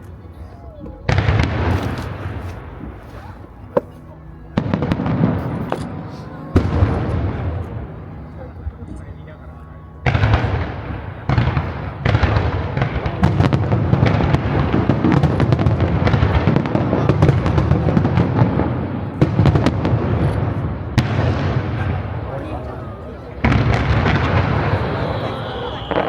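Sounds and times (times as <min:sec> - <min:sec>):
fireworks booming: 0:00.9 - 0:08.4, 0:10.0 - 0:26.0
fireworks crackling: 0:01.1 - 0:08.3, 0:10.1 - 0:26.0.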